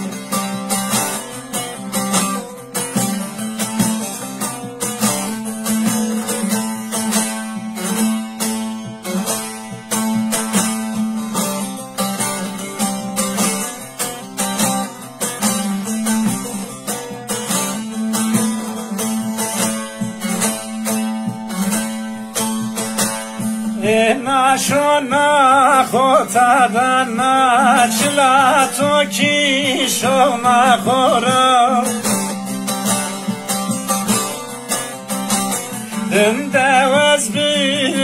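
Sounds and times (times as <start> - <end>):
plucked lute with drone: 0.0 - 38.0.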